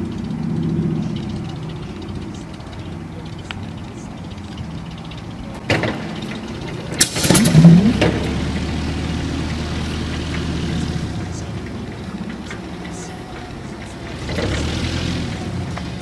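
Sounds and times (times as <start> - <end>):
large engine starting and rumbling: 0.0 - 16.0.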